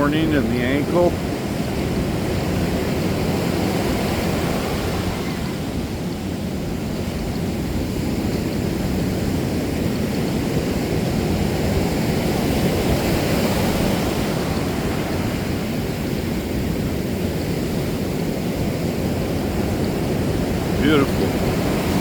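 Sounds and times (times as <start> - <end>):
ocean surf washing ashore: 0.0 - 22.0.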